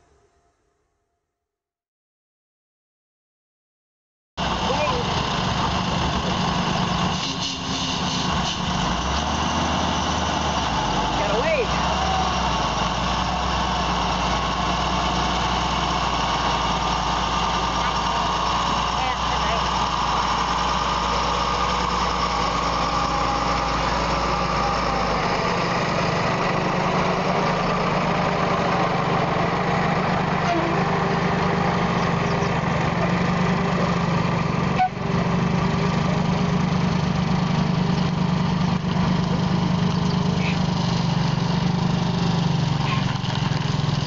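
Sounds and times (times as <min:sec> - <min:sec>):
diesel truck engine running: 0:04.4 - 0:44.0.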